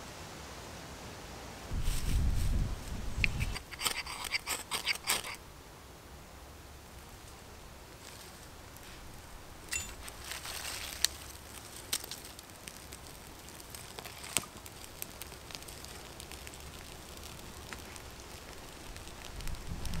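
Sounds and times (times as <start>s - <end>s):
fire popping: 1.7s - 5.4s, 6.7s - 20.0s
campfire crackling: 1.7s - 20.0s.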